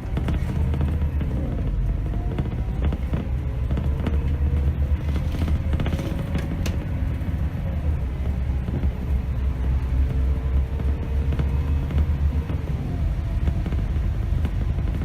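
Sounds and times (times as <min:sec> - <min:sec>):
bus diesel engine rumble: 0:00.0 - 0:15.0
clicks and rattles: 0:00.0 - 0:15.0.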